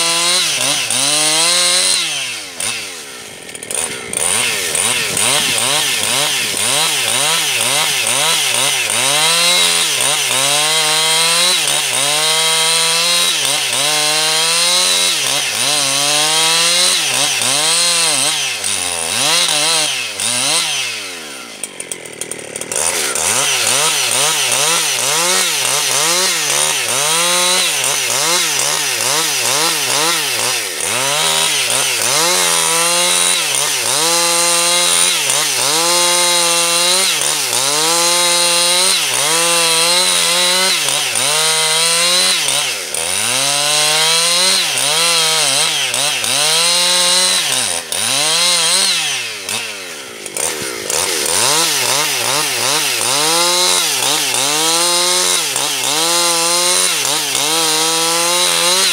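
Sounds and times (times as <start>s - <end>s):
chainsaw cutting a log: 0.0s - 58.9s.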